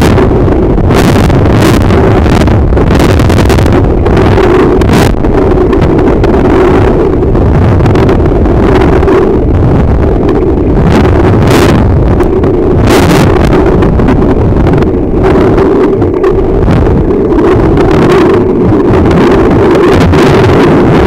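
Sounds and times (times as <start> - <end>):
muffled underwater rumble: 0.0 - 21.0.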